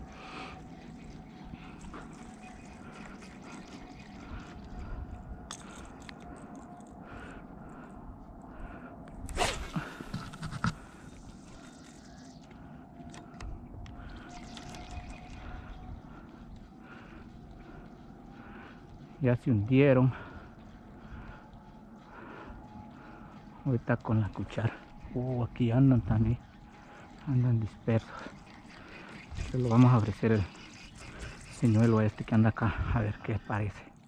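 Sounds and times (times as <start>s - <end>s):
faint outdoor background: 0.0s - 34.0s.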